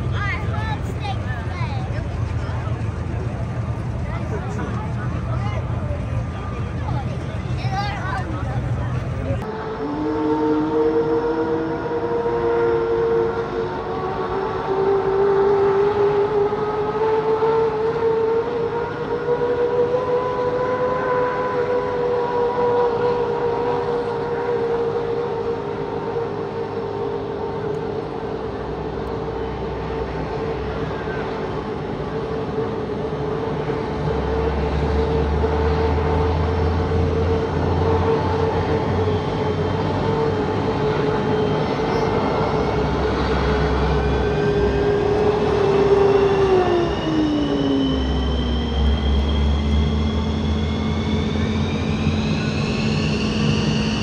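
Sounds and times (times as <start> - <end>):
turbine starters whining: 0.0 - 54.0.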